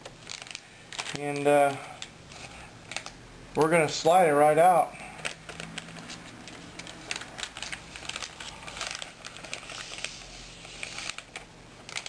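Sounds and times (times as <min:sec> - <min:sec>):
plastic packaging rustling: 0:00.0 - 0:03.2, 0:03.8 - 0:12.0.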